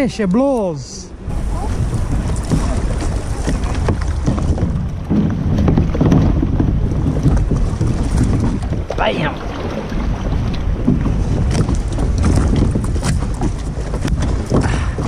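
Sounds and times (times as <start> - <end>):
water slapping around kayaks: 0.0 - 15.0
wind buffeting microphone: 0.0 - 15.0
small paddle splashes: 1.4 - 15.0.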